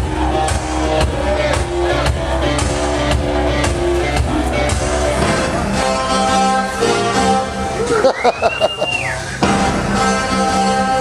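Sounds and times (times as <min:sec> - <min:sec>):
pop dance music with drum beat: 0:00.0 - 0:11.0.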